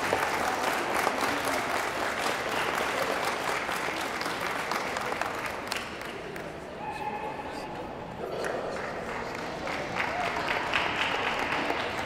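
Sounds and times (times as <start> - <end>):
audience applauding: 0.0 - 6.6, 8.4 - 12.0.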